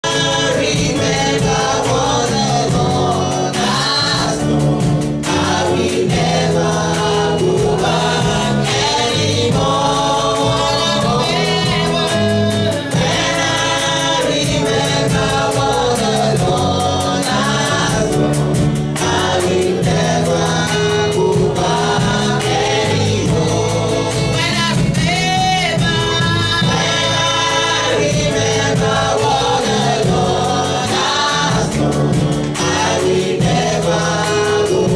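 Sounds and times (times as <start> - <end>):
choir singing gospel song: 0.0 - 34.9.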